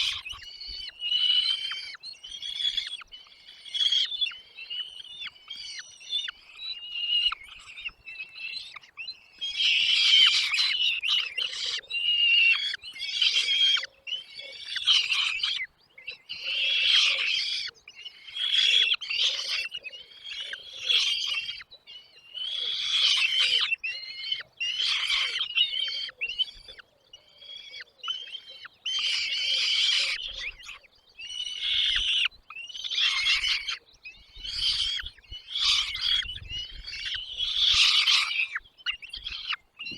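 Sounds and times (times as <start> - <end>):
nestling birds chirping: 0.0 - 39.9.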